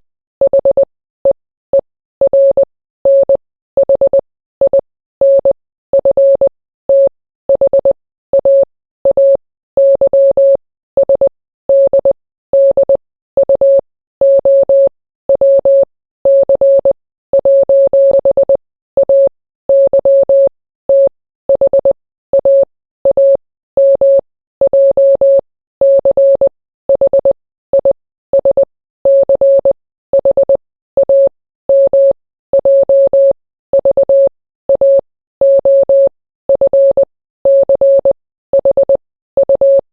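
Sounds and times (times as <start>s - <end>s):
morse code beeps: 0.4s - 26.4s, 27.0s - 39.9s.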